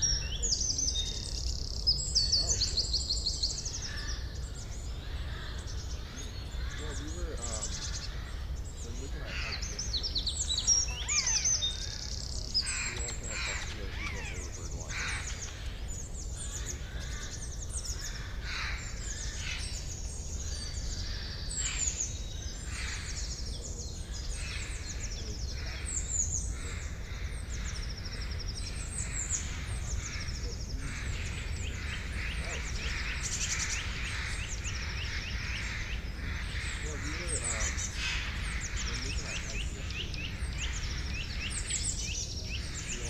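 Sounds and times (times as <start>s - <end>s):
songbirds chirping and trilling: 0.0s - 43.0s.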